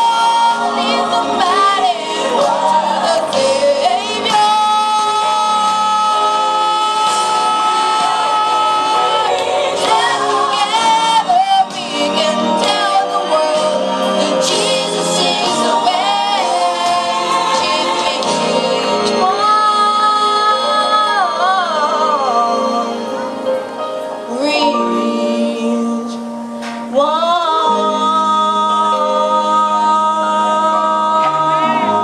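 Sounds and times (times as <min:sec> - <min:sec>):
musical accompaniment: 0:00.0 - 0:32.0
person singing with vibrato: 0:00.0 - 0:32.0.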